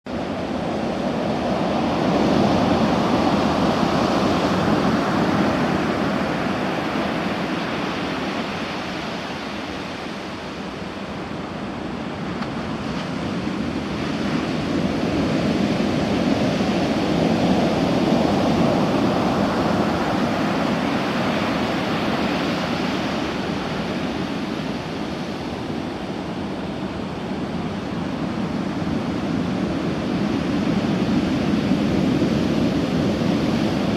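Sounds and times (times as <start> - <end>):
heavy surf breaking on beach: 0.1 - 33.9.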